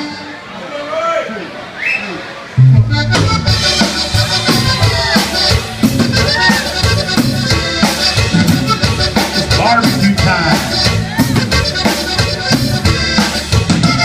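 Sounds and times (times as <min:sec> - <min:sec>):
accordion melody: 0:00.0 - 0:00.6, 0:02.2 - 0:14.0
drum kit beat: 0:02.6 - 0:14.0
electric bass guitar: 0:02.6 - 0:14.0.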